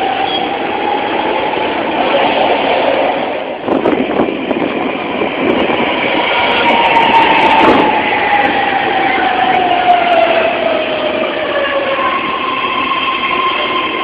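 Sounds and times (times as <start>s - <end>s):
train running on rails: 0.0s - 14.0s.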